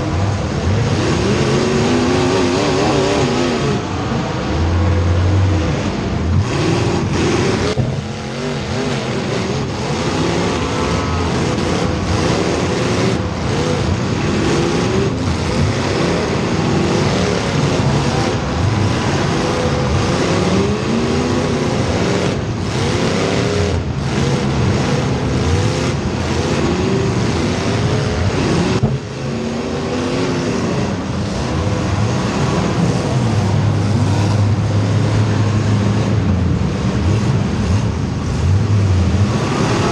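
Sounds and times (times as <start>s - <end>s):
cars passing by: 0.0s - 39.9s
race car engines: 0.0s - 39.9s.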